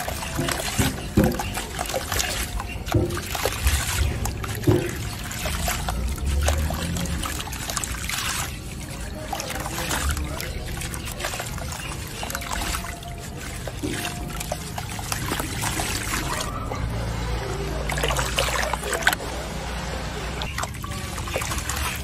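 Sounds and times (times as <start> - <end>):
sharp water splashes: 0.0 - 22.0
water sloshing and dribbling: 0.0 - 22.0.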